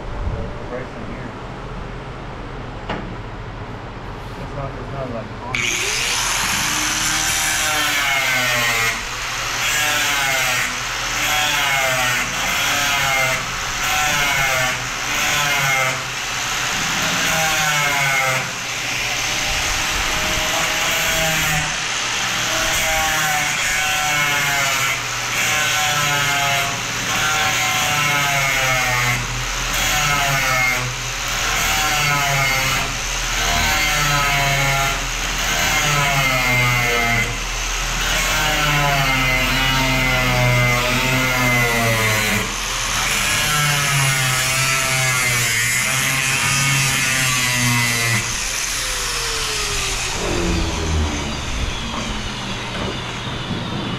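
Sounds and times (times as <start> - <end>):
grinder cutting steel: 5.6 - 53.5.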